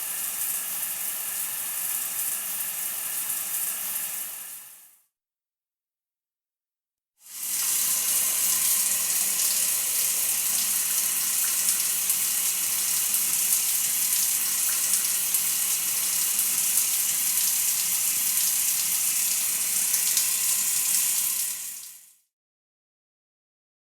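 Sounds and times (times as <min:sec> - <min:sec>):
shower spray running: 0:00.0 - 0:04.8, 0:07.3 - 0:22.1.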